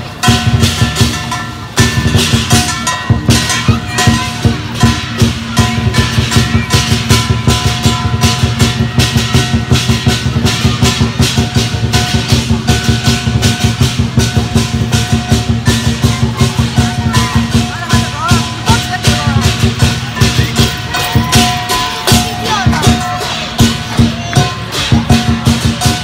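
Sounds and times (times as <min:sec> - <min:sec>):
large drum beating: 0:00.0 - 0:26.0
gong: 0:00.1 - 0:26.0.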